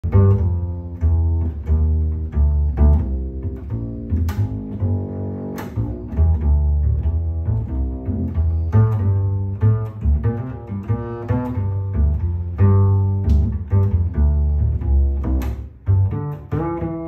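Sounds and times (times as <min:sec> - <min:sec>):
plucked double bass: 0:00.0 - 0:17.0.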